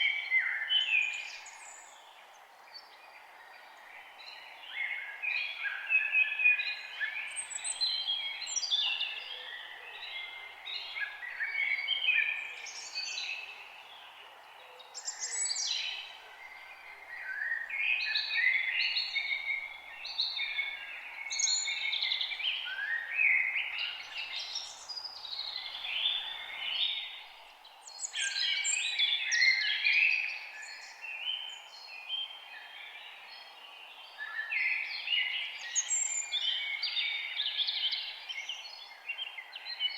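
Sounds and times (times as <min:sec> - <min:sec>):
songbirds warbling: 0:00.9 - 0:39.9.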